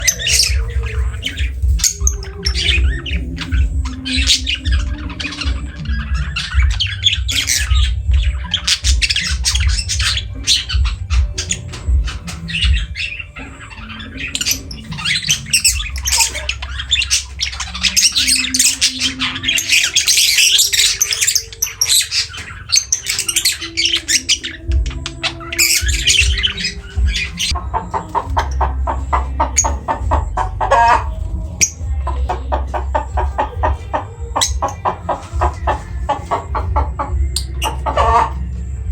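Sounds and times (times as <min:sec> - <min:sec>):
lovebirds chirping and squawking: 0:00.0 - 0:38.9.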